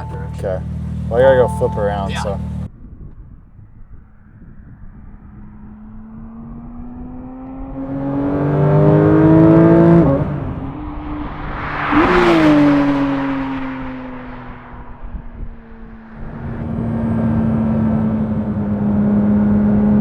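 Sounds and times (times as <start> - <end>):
sports car passing by: 0.0 - 2.7, 3.8 - 20.0.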